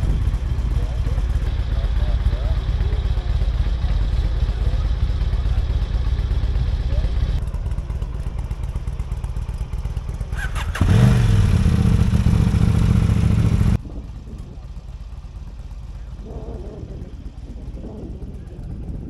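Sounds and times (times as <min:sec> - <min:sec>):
motorcycle engines rumbling: 0:00.0 - 0:19.0
nearer motorcycle engine revving: 0:00.0 - 0:19.0.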